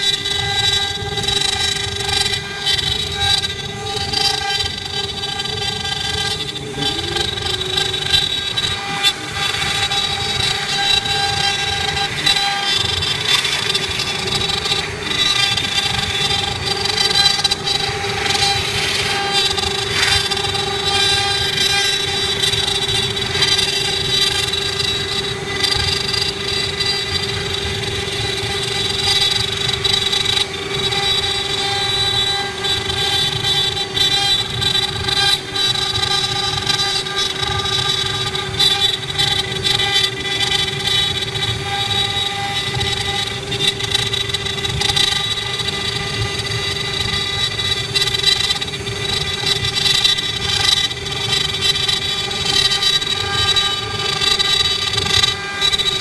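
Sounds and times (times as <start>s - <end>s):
wood carving router whining: 0.0s - 56.0s.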